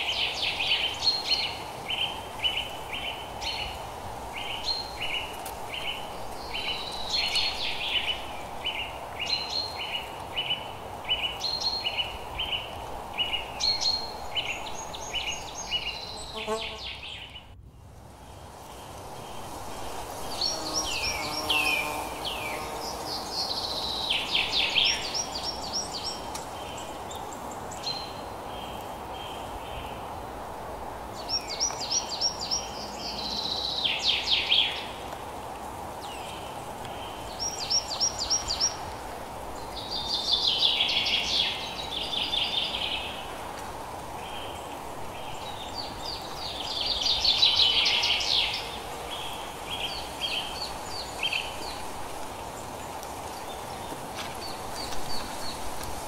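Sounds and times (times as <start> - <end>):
songbird singing: 0.0 - 17.6, 18.2 - 30.2, 31.1 - 56.0
background hiss: 0.0 - 56.0.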